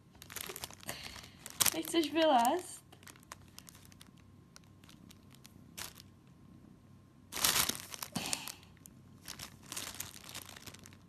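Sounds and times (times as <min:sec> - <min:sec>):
plastic bag crinkling: 0:00.0 - 0:06.1, 0:07.3 - 0:11.0.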